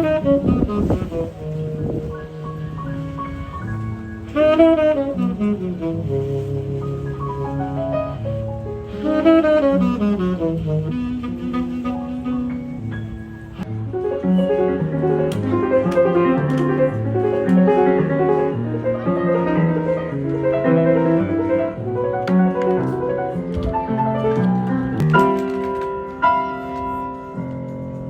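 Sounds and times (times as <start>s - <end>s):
jazz piano music: 0.0s - 28.0s.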